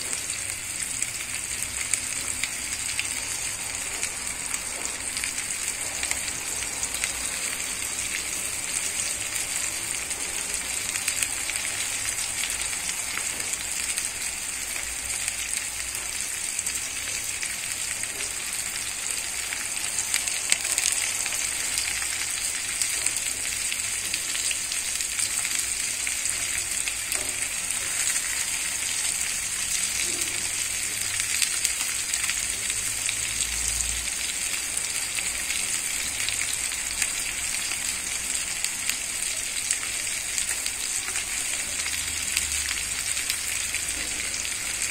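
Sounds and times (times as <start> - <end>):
fish frying in hot oil: 0.0 - 44.9.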